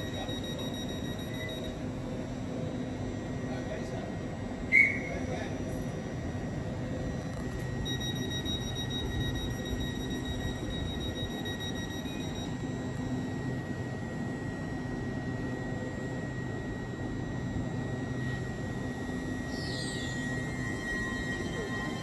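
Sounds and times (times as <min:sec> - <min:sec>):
train humming with high whine: 0:00.0 - 0:22.0.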